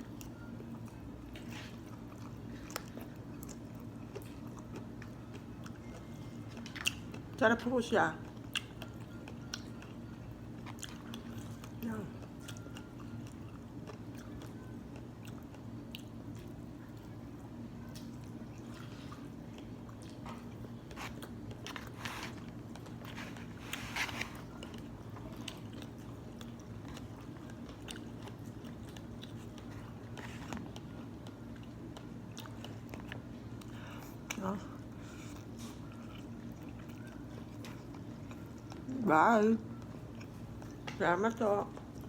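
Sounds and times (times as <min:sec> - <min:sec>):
person chewing food: 0:00.0 - 0:07.4, 0:08.2 - 0:17.2, 0:17.8 - 0:38.9, 0:39.7 - 0:40.9
steady low hum: 0:00.0 - 0:42.0.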